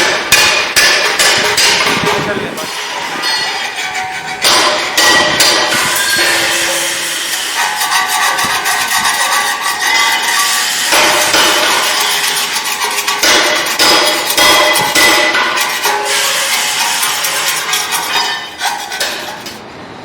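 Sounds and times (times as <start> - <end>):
spice grinder clattering: 2.6 - 19.6.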